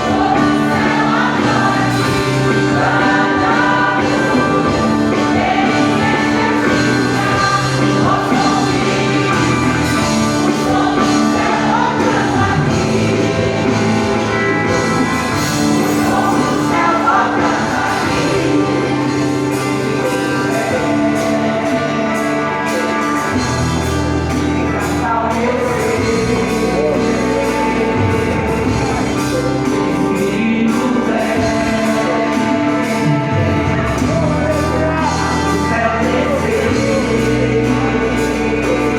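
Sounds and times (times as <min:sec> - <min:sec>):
church choir singing: 0:00.0 - 0:38.9
instrumental accompaniment: 0:00.0 - 0:38.9
steady bass line: 0:00.0 - 0:38.9.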